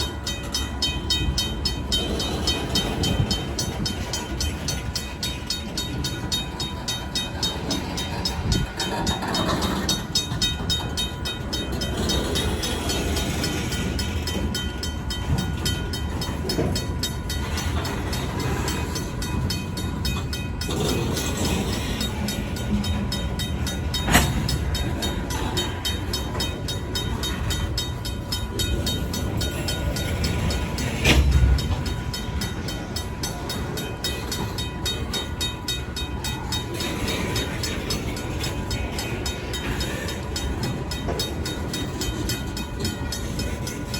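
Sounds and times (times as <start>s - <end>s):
crossing bell ringing: 0.0s - 43.9s
train wheels on rails: 0.0s - 43.9s.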